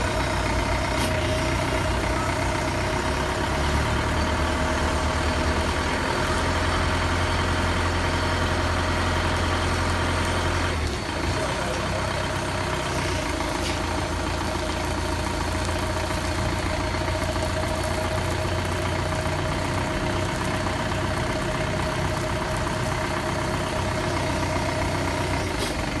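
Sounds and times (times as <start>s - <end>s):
constant whine: 0.0s - 26.0s
lift truck engine idling: 0.0s - 26.0s.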